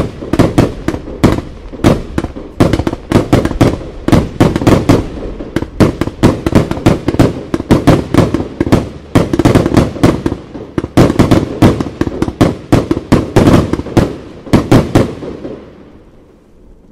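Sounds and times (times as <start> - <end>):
firework cake firing: 0.0 - 15.7.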